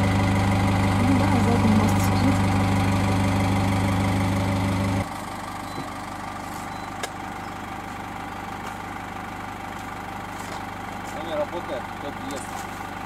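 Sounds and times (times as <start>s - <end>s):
van engine idling: 0.0s - 13.0s.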